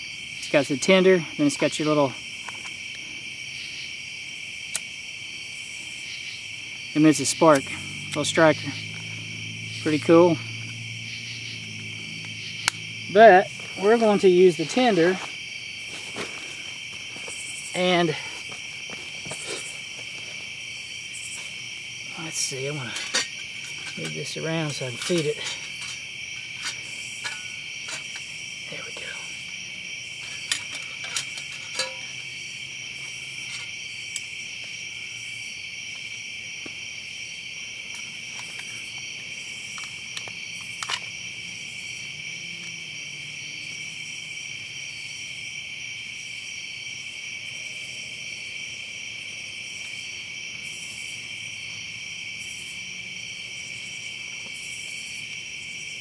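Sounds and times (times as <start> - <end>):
night insects chorus: 0.0 - 56.0.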